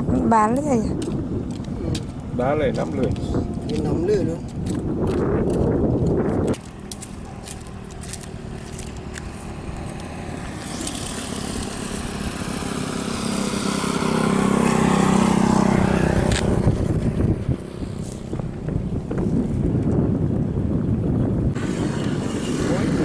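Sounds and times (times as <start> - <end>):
engine passing by: 0.7 - 20.3, 20.9 - 23.0.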